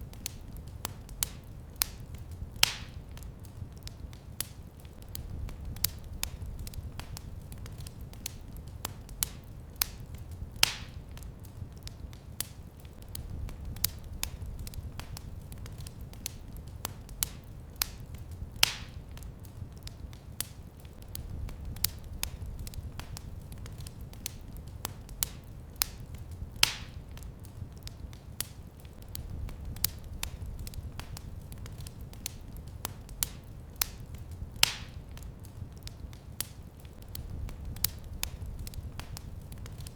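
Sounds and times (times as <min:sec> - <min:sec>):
fire crackling: 0:00.0 - 0:39.9
low rumble of flames: 0:00.0 - 0:39.9.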